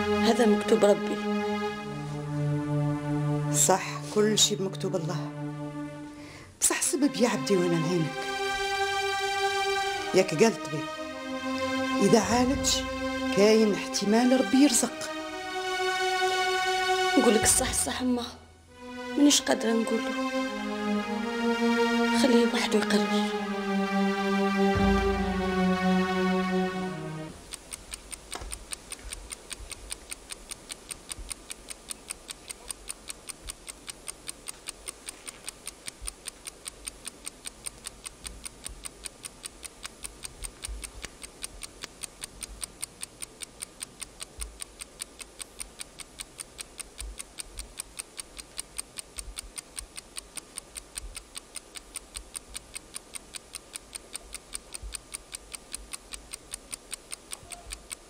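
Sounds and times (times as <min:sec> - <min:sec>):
alarm clock ticking: 0:00.0 - 0:58.0.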